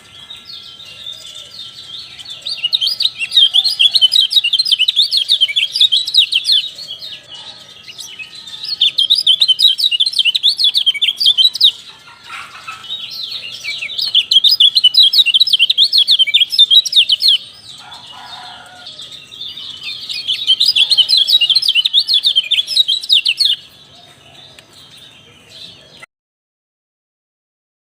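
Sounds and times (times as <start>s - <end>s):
bird chattering calls: 0.8s - 24.6s.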